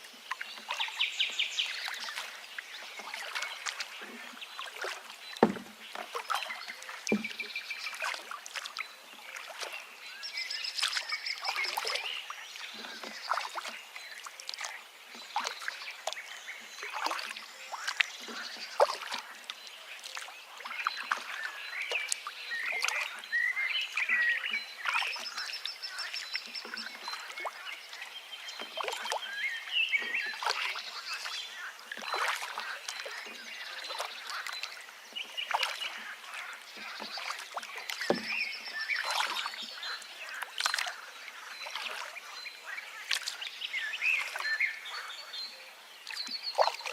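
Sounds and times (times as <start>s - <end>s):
birds singing: 0.0s - 46.9s.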